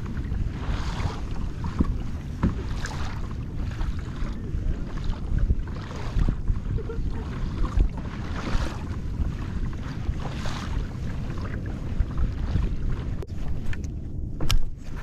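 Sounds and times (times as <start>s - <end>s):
water sloshing around kayak: 0.0s - 15.0s
wind rumbling on microphone: 0.0s - 15.0s.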